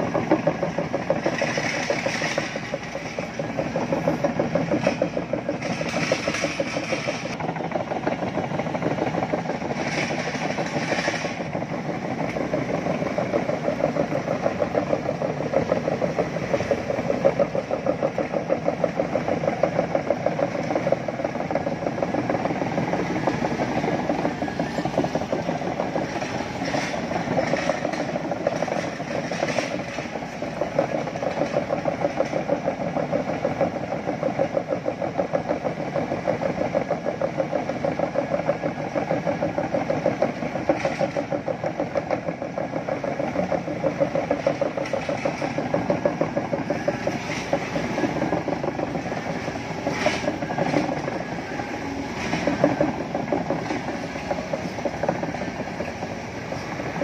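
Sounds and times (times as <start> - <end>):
diesel engine running: 0.0 - 57.0
track links clanking: 0.0 - 57.0.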